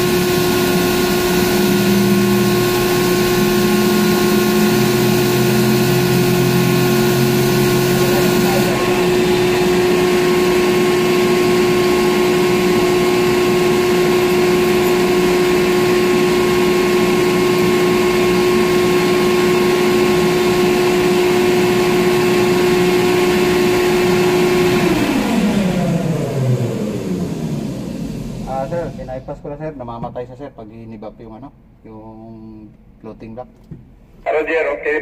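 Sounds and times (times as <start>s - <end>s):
crane machinery humming: 0.0s - 29.5s.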